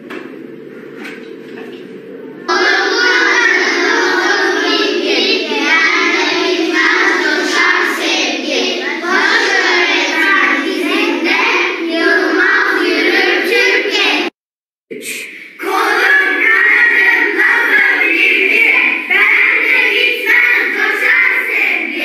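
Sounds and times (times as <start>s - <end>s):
children singing in unison: 2.5s - 14.3s, 15.6s - 22.0s.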